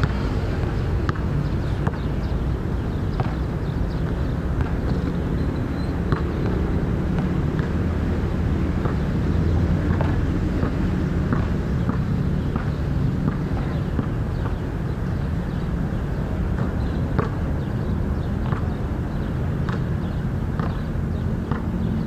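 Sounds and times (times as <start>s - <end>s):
basketball bouncing on court: 0.0s - 14.8s, 15.5s - 22.0s.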